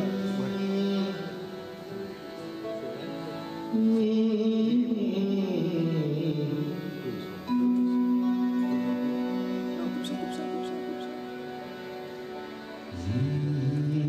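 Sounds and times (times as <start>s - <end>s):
man singing: 0.0s - 11.6s, 12.7s - 14.0s
harmonium: 0.0s - 14.0s.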